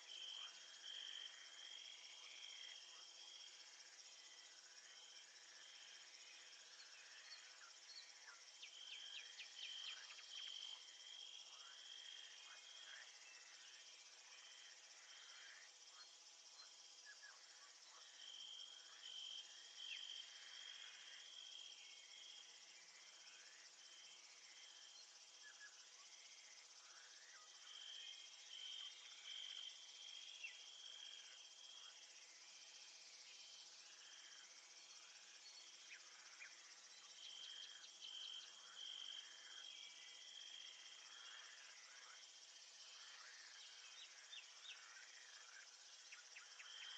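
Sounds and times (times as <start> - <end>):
faint crickets chirping: 0.0 - 46.9.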